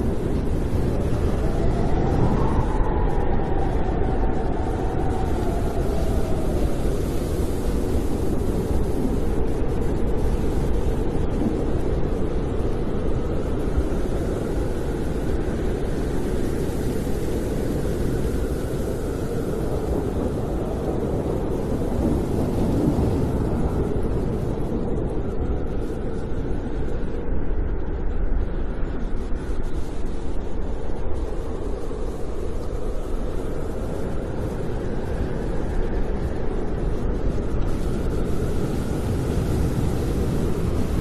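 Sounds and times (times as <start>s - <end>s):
faint wind whistling: 0.0s - 41.0s
snowstorm wind rumbling: 0.0s - 41.0s.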